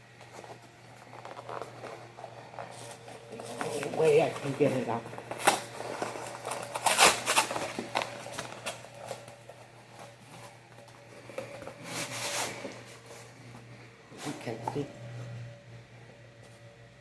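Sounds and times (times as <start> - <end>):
cardboard packaging rustling: 0.0 - 14.8.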